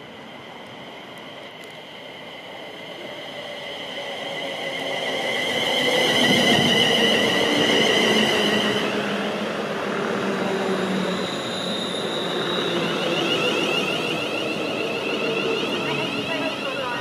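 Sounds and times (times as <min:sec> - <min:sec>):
train wheels rumbling on rails: 0:00.1 - 0:17.0.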